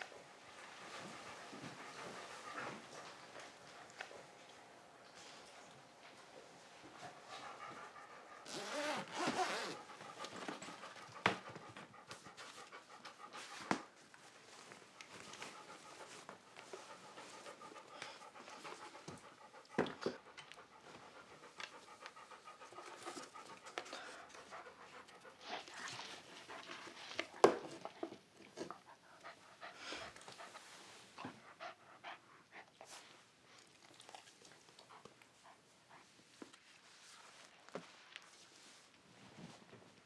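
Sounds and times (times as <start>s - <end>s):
dog panting: 0.0s - 36.6s.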